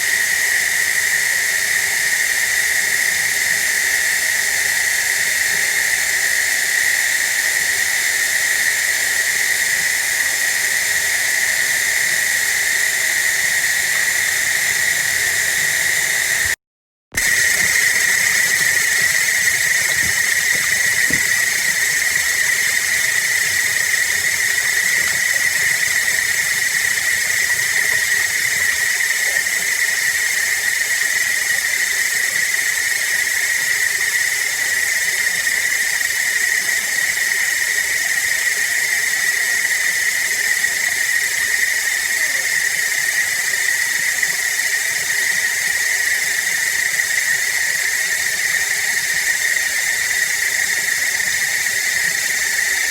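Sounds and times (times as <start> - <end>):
processed water hiss: 0.0 - 16.6, 17.2 - 52.9.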